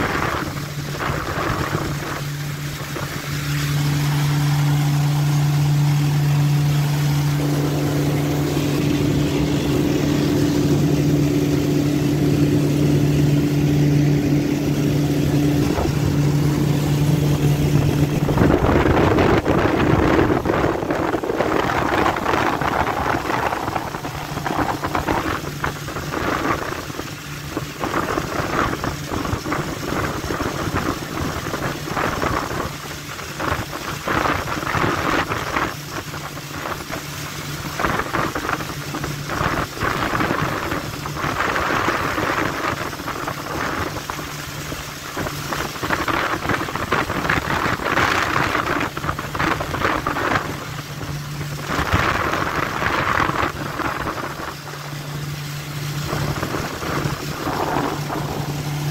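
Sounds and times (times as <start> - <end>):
boat engine hum: 0.0 - 58.9
rush of wind and water: 0.0 - 58.9.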